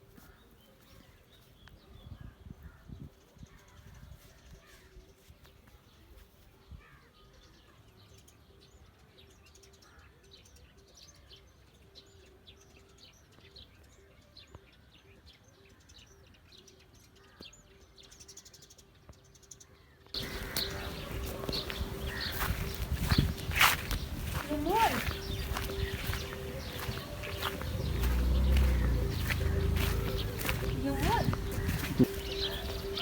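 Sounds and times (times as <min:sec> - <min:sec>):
birds chirping faintly: 0:00.0 - 0:33.0.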